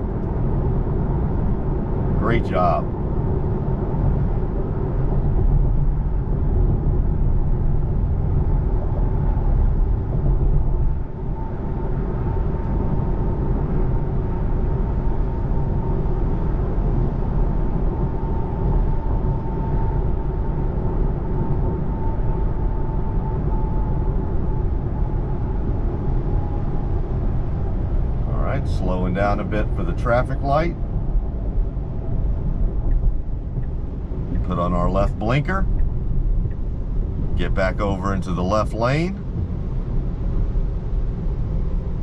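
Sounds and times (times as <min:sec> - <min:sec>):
faint steady whine: 0:00.0 - 0:42.0.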